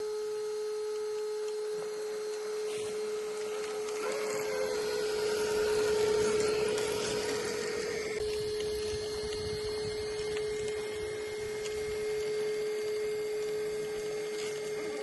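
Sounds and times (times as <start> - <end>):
electric motor and drivetrain whine: 0.0 - 15.0.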